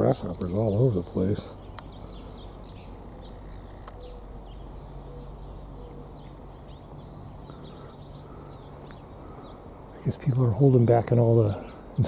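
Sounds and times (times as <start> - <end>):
low outdoor hum: 0.0 - 12.0
small birds chirping: 0.0 - 12.0.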